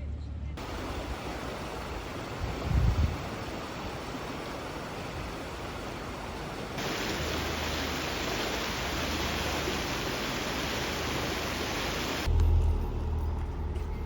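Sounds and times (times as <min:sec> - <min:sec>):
steady rushing noise: 0:00.6 - 0:12.3.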